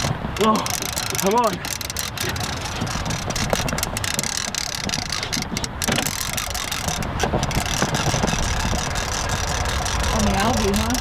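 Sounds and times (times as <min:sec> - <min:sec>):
sharp clicks: 0:00.0 - 0:11.0
wind buffeting microphone: 0:00.0 - 0:11.0.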